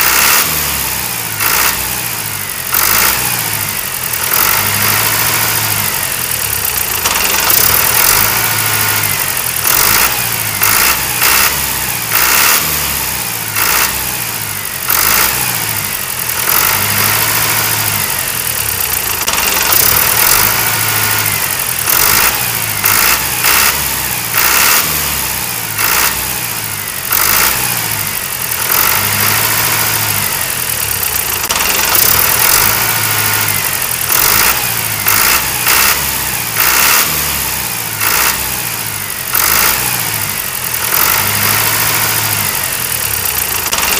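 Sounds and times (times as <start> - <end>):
tractor engine chugging: 0.0 - 43.9.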